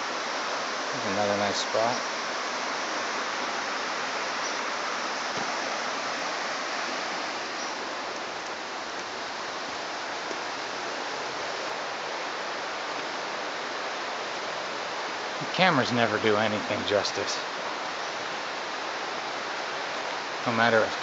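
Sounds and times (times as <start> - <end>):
stream running water: 0.0 - 21.0.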